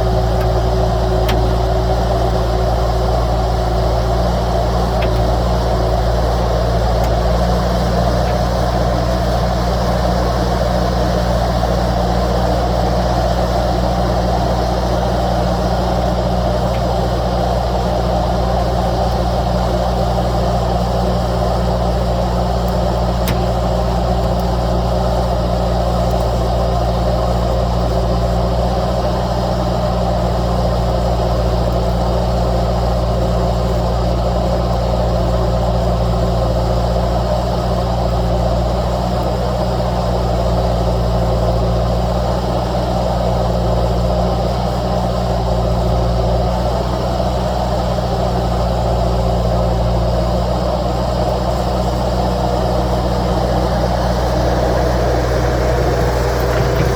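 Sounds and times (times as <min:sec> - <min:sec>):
loader engine running: 0:00.0 - 0:56.9.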